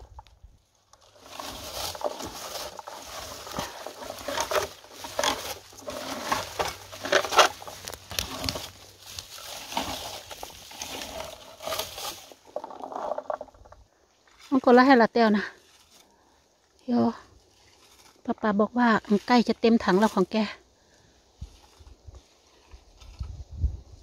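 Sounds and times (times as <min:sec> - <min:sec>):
shrubs and twigs rustling: 0:00.0 - 0:24.0.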